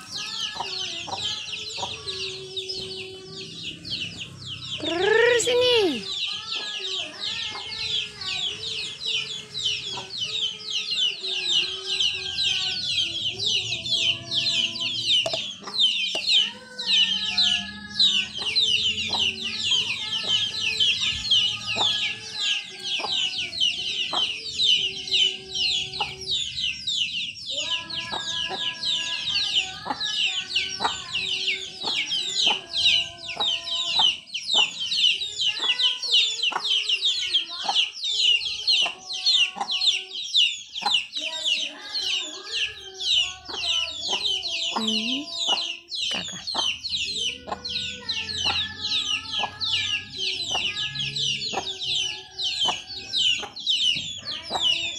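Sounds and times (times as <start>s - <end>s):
chicks peeping: 0.0s - 54.9s
hen clucking: 0.0s - 54.9s.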